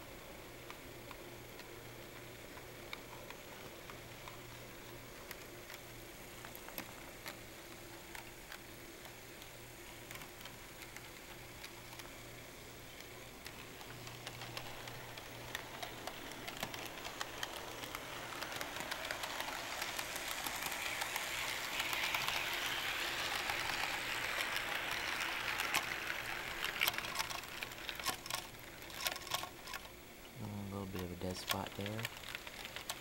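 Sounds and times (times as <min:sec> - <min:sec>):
model train rolling on track: 0:00.0 - 0:33.0
small clicks of train wheels: 0:00.0 - 0:33.0.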